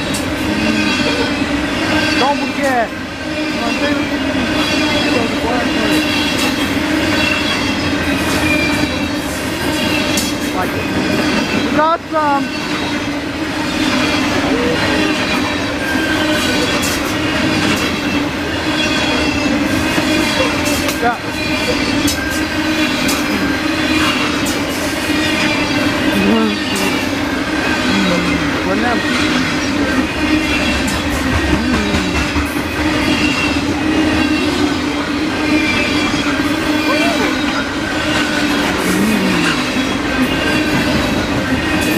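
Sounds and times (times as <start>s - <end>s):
squealing train wheels: 0.0s - 41.9s
steel wheels clattering on rail: 0.0s - 41.9s.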